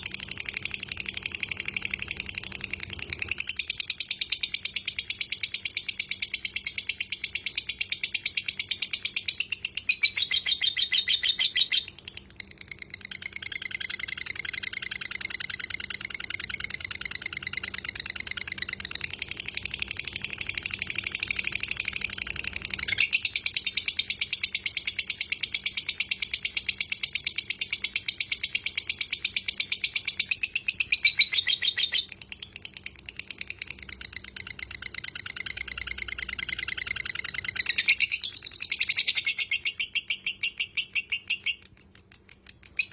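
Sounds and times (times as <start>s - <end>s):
lovebird chattering: 0.0s - 42.9s.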